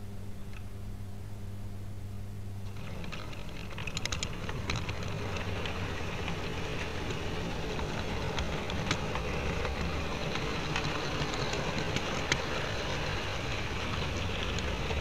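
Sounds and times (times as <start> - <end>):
steady electrical hum: 0.0 - 15.0
model train wheels rumbling: 2.6 - 15.0
clicks over rail joints: 2.7 - 15.0.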